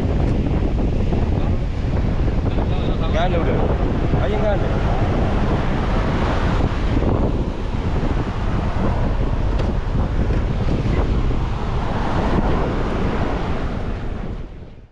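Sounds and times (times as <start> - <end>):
sea waves washing: 0.0 - 14.9
wind buffeting microphone: 0.0 - 14.9.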